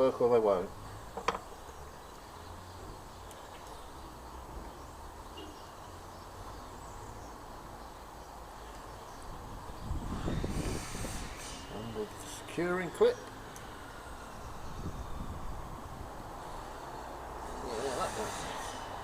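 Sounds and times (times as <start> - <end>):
low rumble of wind: 0.0 - 19.0.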